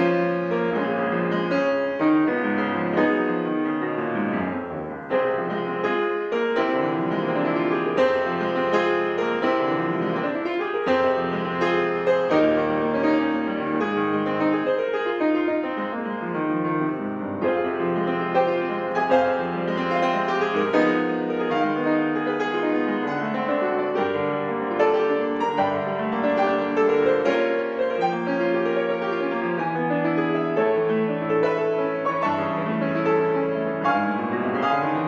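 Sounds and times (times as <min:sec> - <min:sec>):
solo classical piano: 0:00.0 - 0:35.0.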